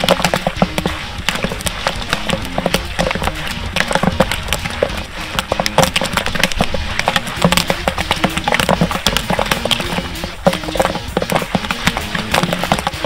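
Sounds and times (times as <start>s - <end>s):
popcorn popping in a kettle: 0.0s - 13.0s.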